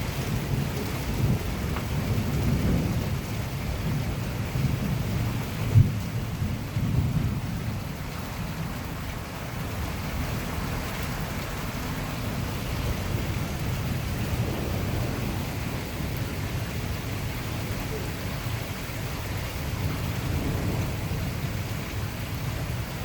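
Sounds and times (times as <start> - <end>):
hard rain falling: 0.0 - 23.0
strong wind: 0.0 - 23.0
thunder rumble: 0.0 - 23.0.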